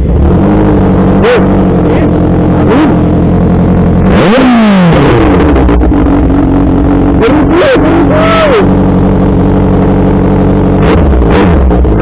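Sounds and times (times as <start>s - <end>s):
engine throttle blips: 0.0s - 12.0s
motorcycle engine idling: 0.0s - 12.0s.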